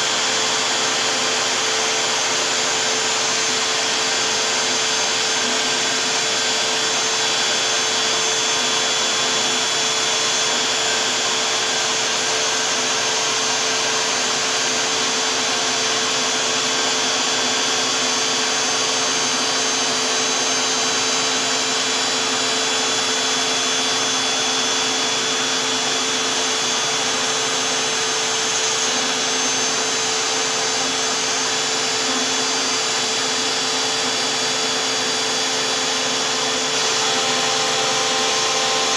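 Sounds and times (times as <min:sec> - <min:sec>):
router cutting plastic: 0:00.0 - 0:38.9.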